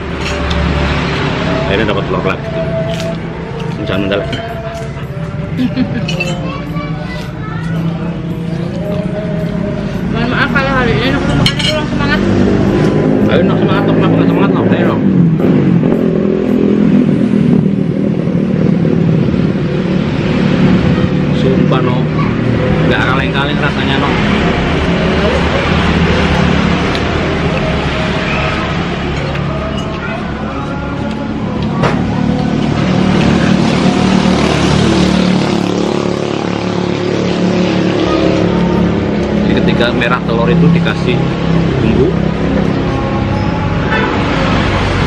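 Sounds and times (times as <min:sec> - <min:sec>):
motorcycle engine droning: 0:00.0 - 0:45.0
road traffic: 0:00.0 - 0:45.0.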